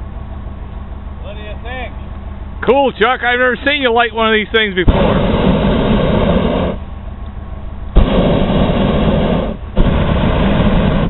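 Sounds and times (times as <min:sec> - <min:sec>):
propane burner blasts: 0:00.0 - 0:11.0.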